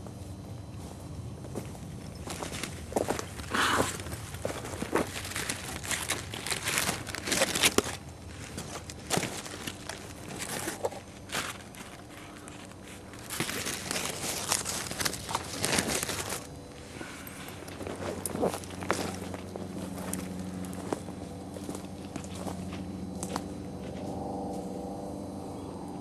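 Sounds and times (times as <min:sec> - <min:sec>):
footsteps on gravel: 0:00.8 - 0:24.0.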